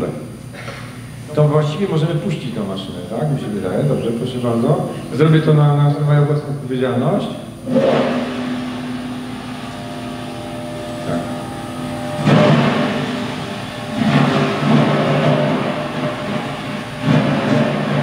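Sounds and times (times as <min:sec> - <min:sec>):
apple crusher machine hum: 0:00.0 - 0:18.0.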